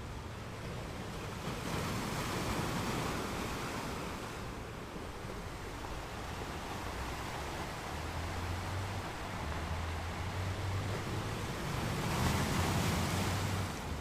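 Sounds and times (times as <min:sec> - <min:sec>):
ocean wave washing: 0:00.0 - 0:14.0.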